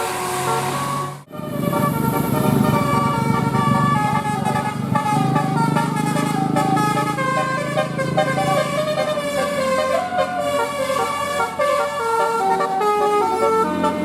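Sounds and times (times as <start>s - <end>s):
low engine rumble: 0.0s - 14.0s
multi-tone air horn tune: 0.0s - 14.0s.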